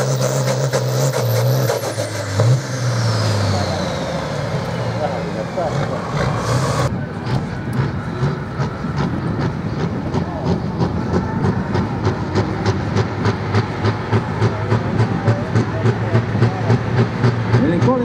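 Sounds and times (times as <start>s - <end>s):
heavy engine pulsing: 0.0s - 18.0s.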